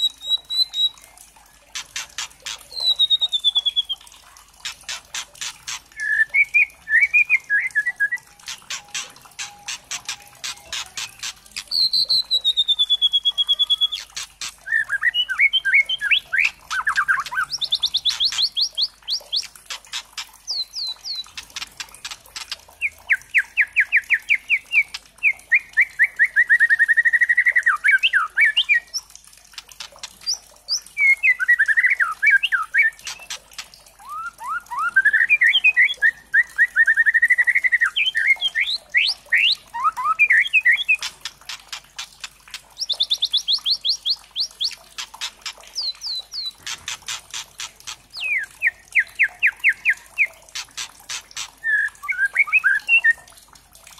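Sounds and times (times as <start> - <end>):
bird singing varied song: 0.0 - 53.3.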